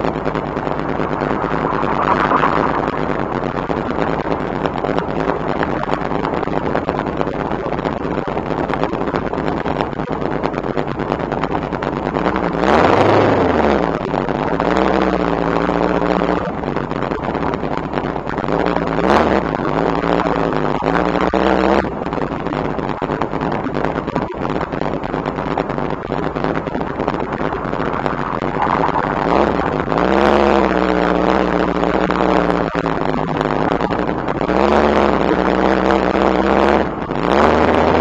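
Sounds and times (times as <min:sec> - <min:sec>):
car engine running and revving: 0:00.0 - 0:38.0
steady rush of noise: 0:00.0 - 0:38.0.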